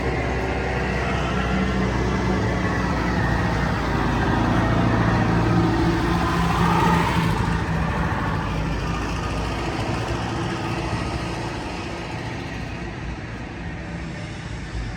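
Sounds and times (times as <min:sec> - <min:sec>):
concrete mixer diesel engine: 0:00.0 - 0:14.9.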